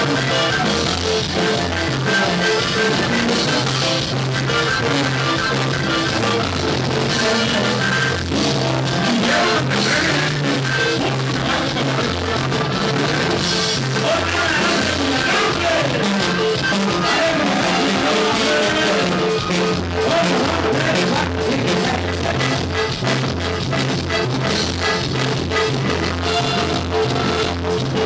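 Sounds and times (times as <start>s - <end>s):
man singing: 0.0s - 23.2s
bass: 0.0s - 28.0s
button accordion melody: 0.0s - 28.0s
drums: 0.0s - 28.0s.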